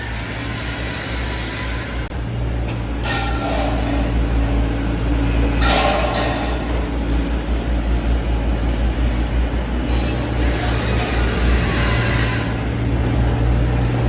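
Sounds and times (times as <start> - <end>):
excavator diesel engines running: 0.0 - 14.0.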